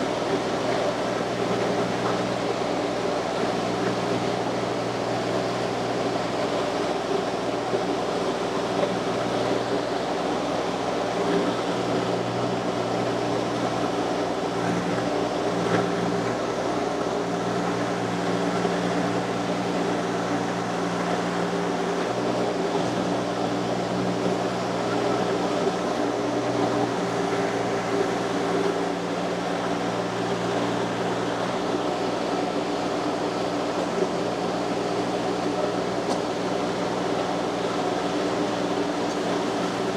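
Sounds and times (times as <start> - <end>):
skid steer engine humming: 0.0 - 39.9.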